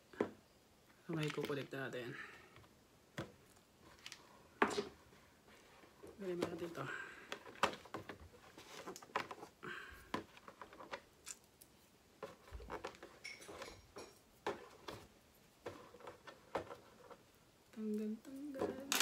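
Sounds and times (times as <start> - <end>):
hands handling plastic shell: 0.2 - 17.3.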